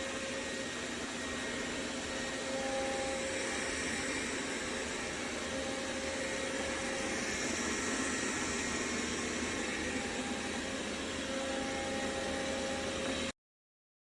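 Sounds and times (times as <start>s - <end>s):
robot vacuum whirring: 0.0s - 13.2s
faint steady tones: 0.0s - 13.3s.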